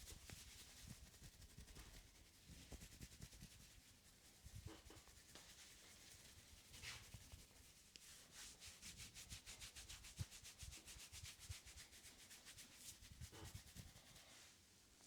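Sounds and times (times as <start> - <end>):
hands rubbing hair and scalp: 0.0 - 14.6.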